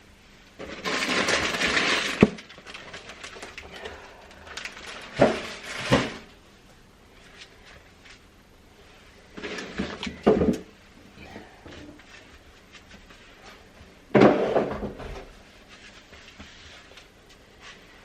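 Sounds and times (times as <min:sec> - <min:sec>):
rustling: 0:00.6 - 0:18.0.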